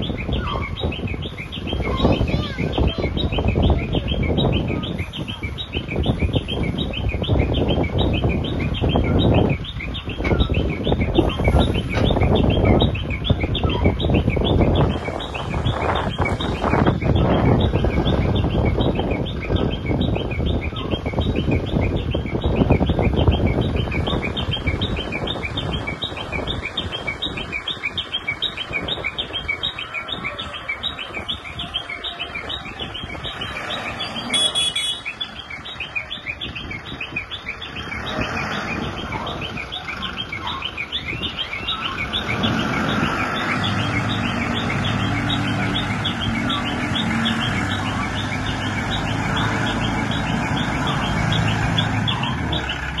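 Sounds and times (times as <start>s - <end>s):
birds chirping: 0.0s - 53.0s
diesel crane engine running: 0.0s - 53.0s.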